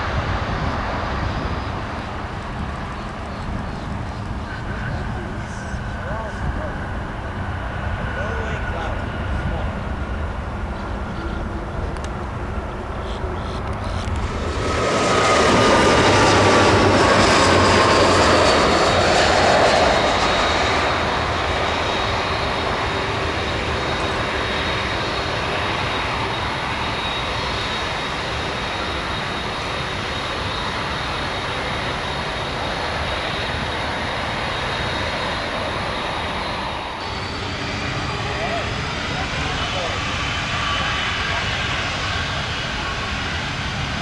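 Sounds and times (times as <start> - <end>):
jet airliner passing: 0.0 - 44.0.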